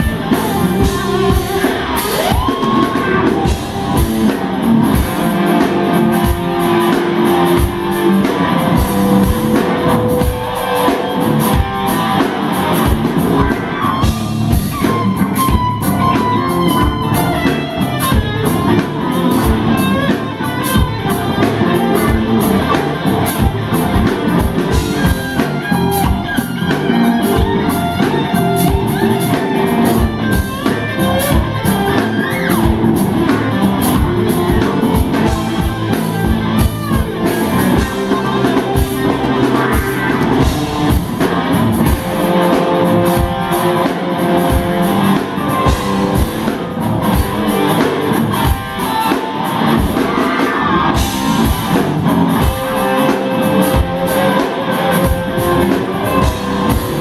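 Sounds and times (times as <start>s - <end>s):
bass guitar: 0.0s - 57.0s
electric lead guitar: 0.0s - 57.0s
steady drum beat: 0.0s - 57.0s.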